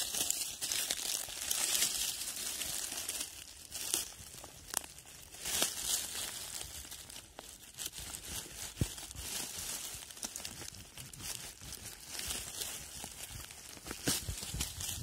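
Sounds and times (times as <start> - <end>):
dry leaves crackling and rustling: 0.0 - 15.0
twigs snapping: 0.0 - 15.0.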